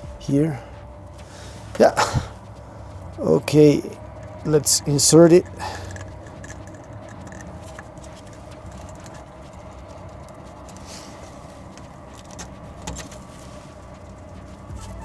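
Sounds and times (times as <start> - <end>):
faint metal scraping: 0.0 - 15.0
low hum: 0.0 - 15.0.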